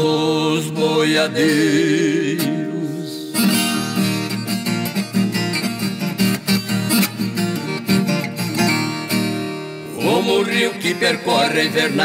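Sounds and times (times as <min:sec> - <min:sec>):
plucked and strummed guitar: 0:00.5 - 0:12.0.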